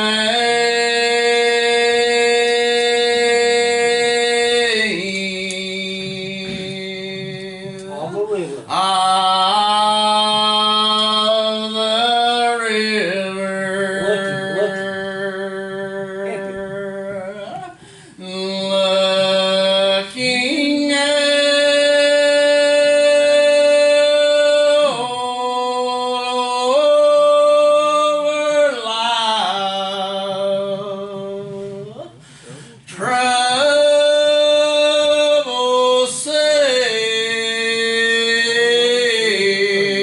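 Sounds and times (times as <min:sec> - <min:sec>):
man singing a hymn: 0:00.0 - 0:32.0, 0:32.8 - 0:40.0.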